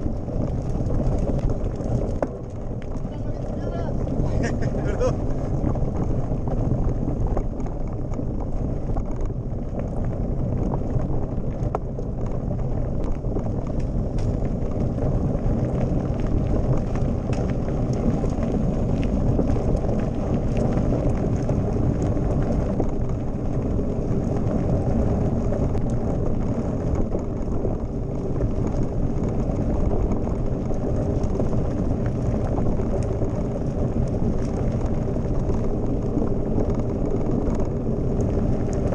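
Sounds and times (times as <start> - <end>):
bike tyres rumbling on gravel: 0.0 - 38.9
gravel clicks and bike rattle: 0.0 - 38.9
wind on microphone: 0.0 - 38.9.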